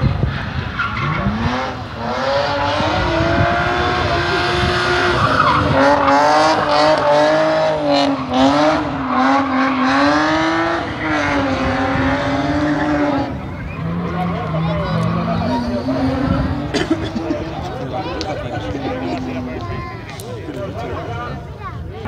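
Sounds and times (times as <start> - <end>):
car engine at high revs: 0.0 - 19.7.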